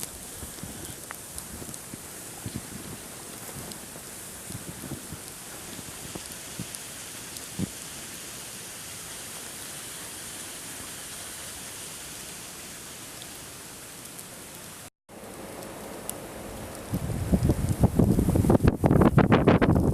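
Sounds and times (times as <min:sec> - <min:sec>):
blizzard wind and snow hiss: 0:00.0 - 0:19.9.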